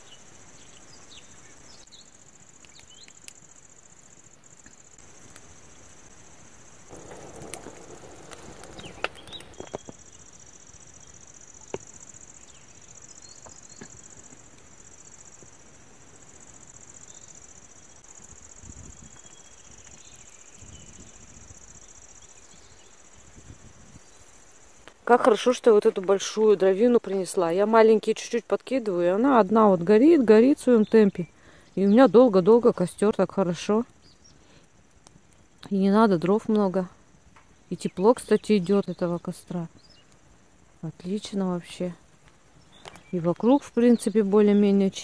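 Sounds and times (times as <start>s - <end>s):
night insects chirring: 0.0s - 45.0s
rustle: 0.0s - 45.0s.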